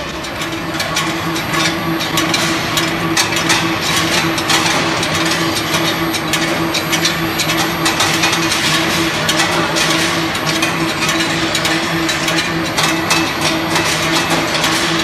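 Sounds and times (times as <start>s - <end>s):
machine drive hum: 0.0s - 15.0s.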